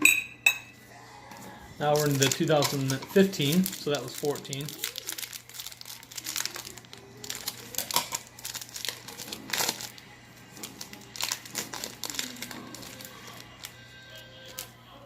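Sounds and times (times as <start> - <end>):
card pack wrapper crinkling and tearing: 1.8 - 14.8.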